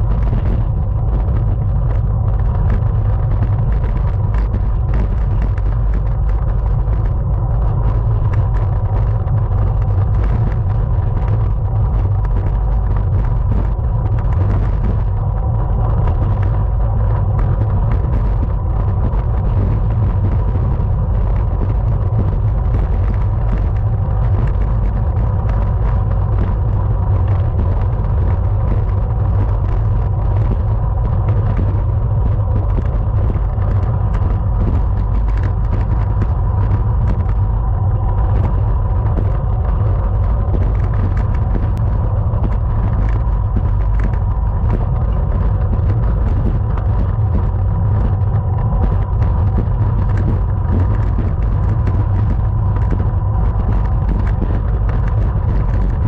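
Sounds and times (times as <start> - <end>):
faint steady whine: 0.0 - 56.0
road rumble: 0.0 - 56.0
wind rush on microphone: 0.0 - 56.0.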